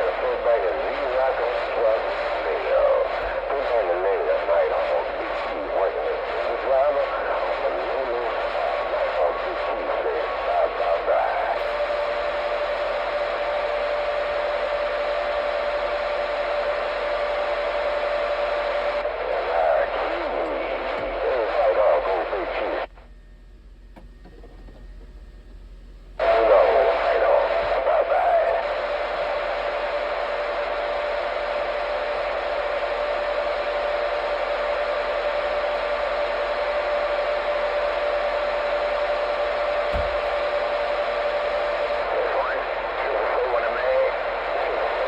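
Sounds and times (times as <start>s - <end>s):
radio static hiss: 0.0s - 23.1s, 26.1s - 45.0s.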